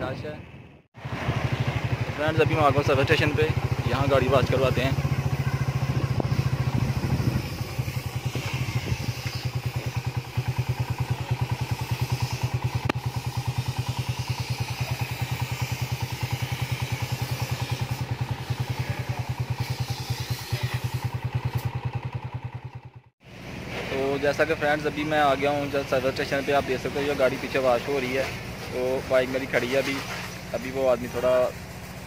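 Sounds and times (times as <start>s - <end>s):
motorcycle engine running: 0.4s - 32.0s.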